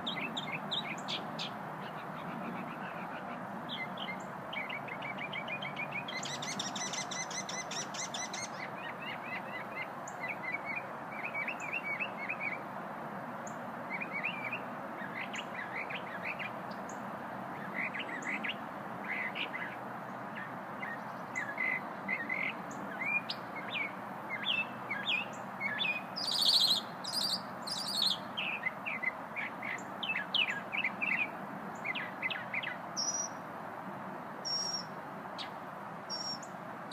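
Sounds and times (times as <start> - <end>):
songbird chirping and trilling: 0.0 - 12.7, 13.4 - 33.4, 34.4 - 36.9
steady background noise: 0.0 - 36.9.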